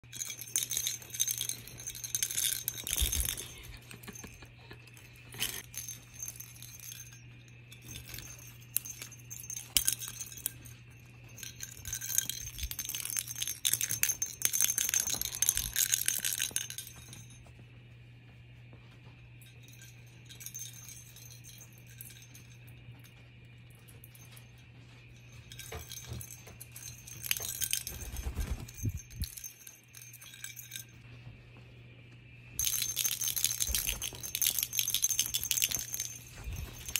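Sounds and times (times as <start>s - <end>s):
bell in plastic ball jingling: 0.0s - 17.6s, 19.4s - 31.0s, 32.6s - 36.9s.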